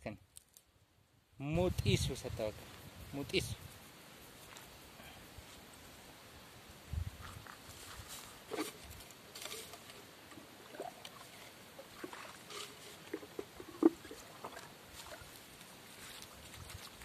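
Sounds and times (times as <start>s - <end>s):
rustling of grass and leaves: 1.7s - 17.0s.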